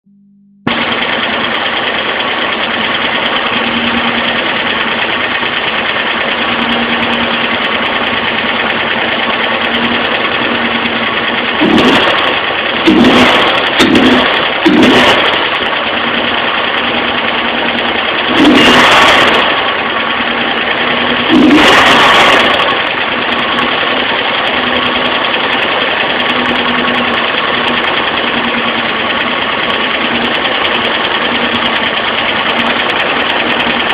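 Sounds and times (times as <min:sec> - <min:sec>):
car engine idling with lifter tick: 0:00.7 - 0:33.9
car engine revving: 0:00.7 - 0:33.9.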